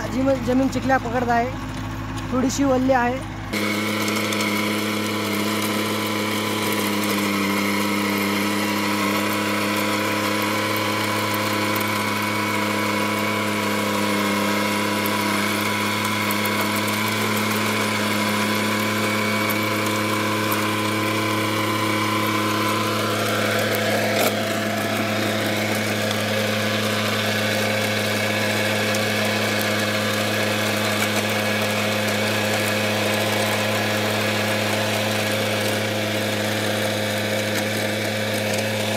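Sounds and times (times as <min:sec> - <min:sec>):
diesel engine running under load: 0:00.0 - 0:38.9
rotavator tilling soil: 0:00.0 - 0:38.9.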